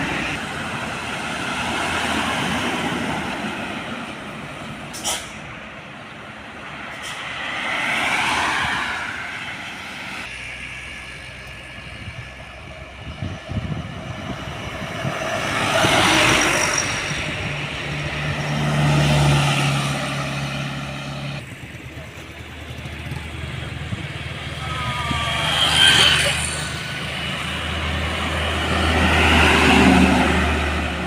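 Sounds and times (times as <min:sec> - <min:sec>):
trucks driving past: 0:00.0 - 0:31.0.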